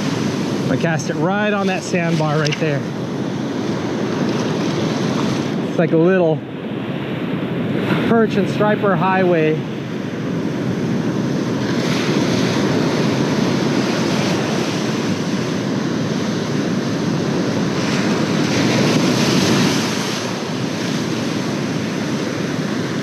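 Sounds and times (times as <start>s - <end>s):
ocean surf breaking: 0.0s - 23.0s
wind on microphone: 0.0s - 23.0s.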